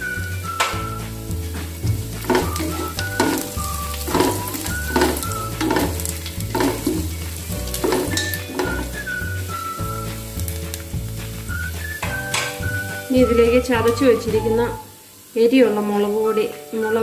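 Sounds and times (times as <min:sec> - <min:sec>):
background music with beat: 0:00.0 - 0:14.9
food sizzling in a pan: 0:00.0 - 0:17.0.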